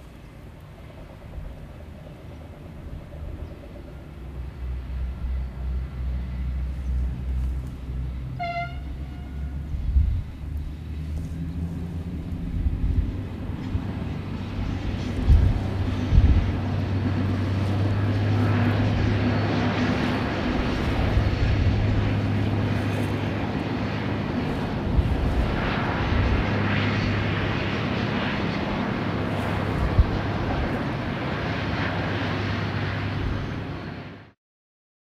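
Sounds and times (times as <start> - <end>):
train diesel engines droning: 0.0 - 34.3.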